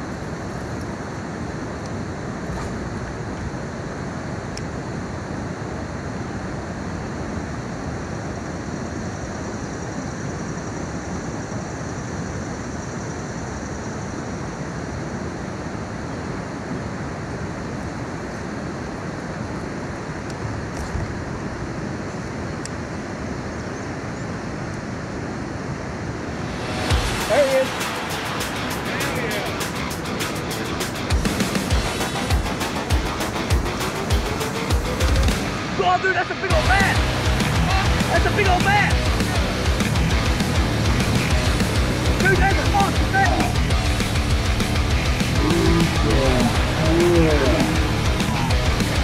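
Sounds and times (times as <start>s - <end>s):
flowing river water: 0.0s - 40.0s.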